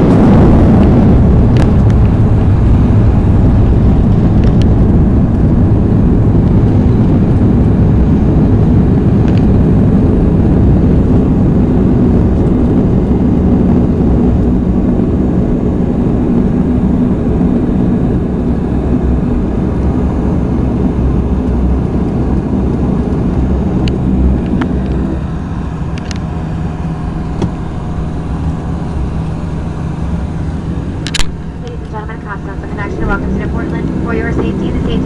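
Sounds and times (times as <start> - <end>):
engines and wheels rumbling: 0.0 - 35.0.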